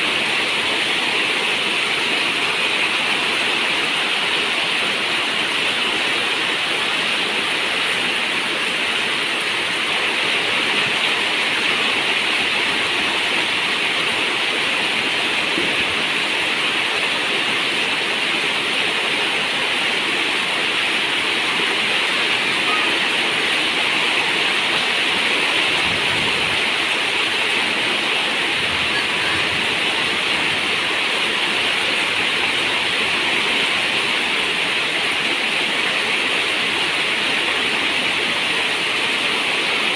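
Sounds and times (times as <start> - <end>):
rain on a metal roof: 0.0 - 39.9
river water running: 0.0 - 39.9.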